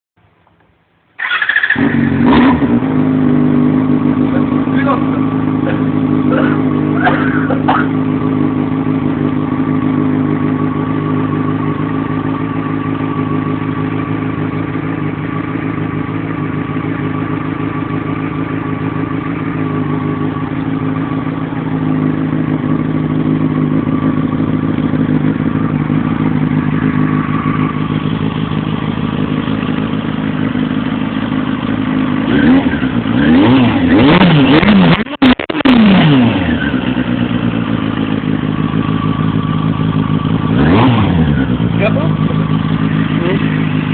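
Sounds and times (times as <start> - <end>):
motorcycle engine idling and revving: 0.3 - 43.9.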